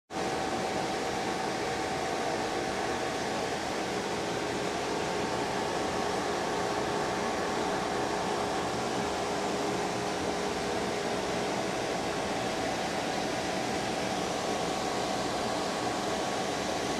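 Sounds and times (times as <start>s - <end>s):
mechanical hum and hiss: 0.2s - 16.9s.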